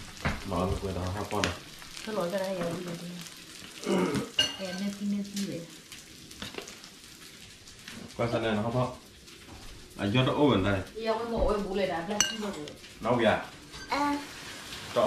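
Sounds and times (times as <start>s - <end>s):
meat sizzling on griddle: 0.0s - 15.0s.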